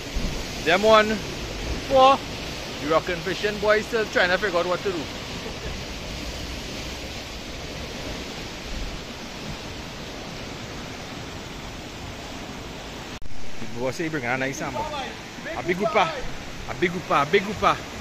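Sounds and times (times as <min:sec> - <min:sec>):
sea surf washing against rocks: 0:00.0 - 0:18.0.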